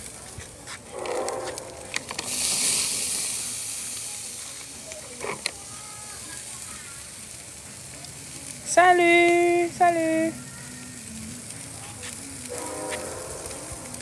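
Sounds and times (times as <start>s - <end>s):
shrimp sizzling in a pan: 0.0s - 14.0s.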